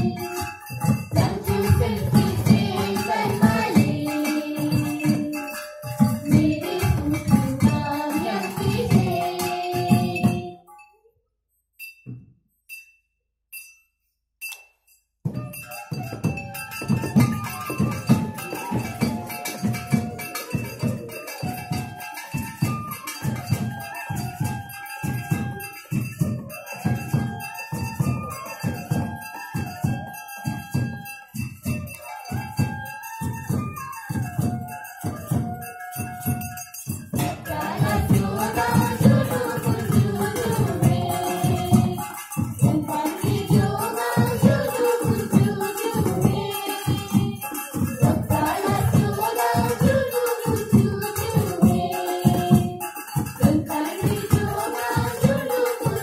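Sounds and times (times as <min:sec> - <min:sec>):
music with steady beat: 0:00.0 - 0:10.6, 0:15.3 - 0:56.0.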